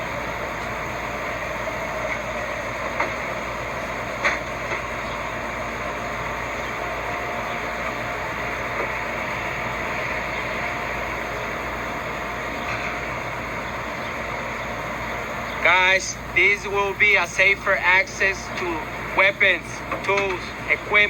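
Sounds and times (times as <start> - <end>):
constant rush: 0.0 - 21.0.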